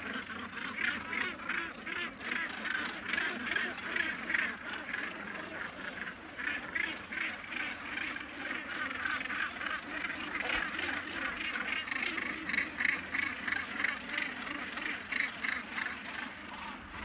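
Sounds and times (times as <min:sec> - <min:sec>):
seabird colony croaking calls: 0:00.0 - 0:17.0.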